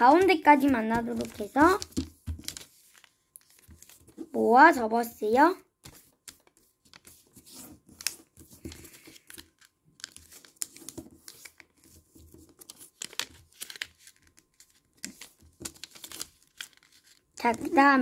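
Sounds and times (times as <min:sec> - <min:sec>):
paper rustling and crinkling: 0:00.1 - 0:04.4, 0:05.8 - 0:17.9.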